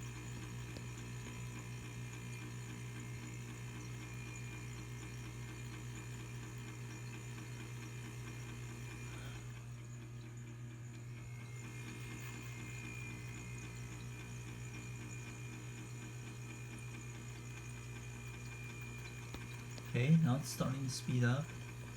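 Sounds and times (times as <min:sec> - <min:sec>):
refrigerator fan motor humming: 0:00.0 - 0:21.9.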